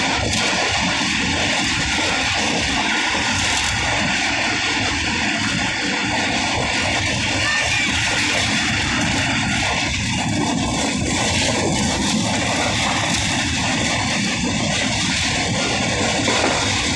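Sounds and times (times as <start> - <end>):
wheel and rail clatter: 0.0 - 16.9
wind noise: 0.0 - 16.9.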